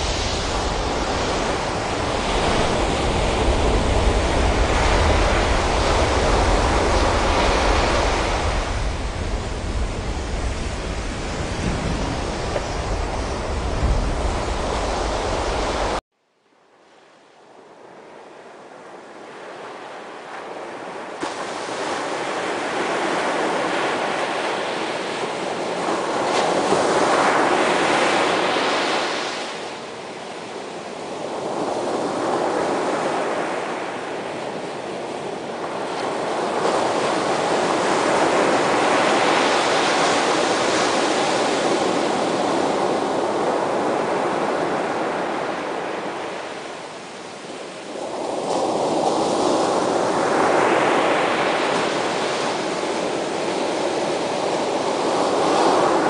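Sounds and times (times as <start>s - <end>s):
small waves breaking on sandy beach: 0.0s - 16.0s, 17.8s - 56.0s.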